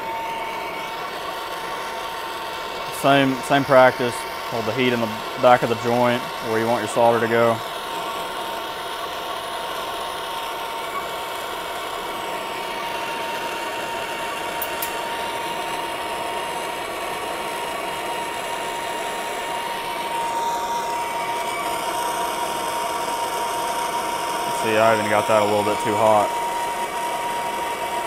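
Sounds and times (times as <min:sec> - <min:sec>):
gas torch hissing: 0:00.0 - 0:28.0.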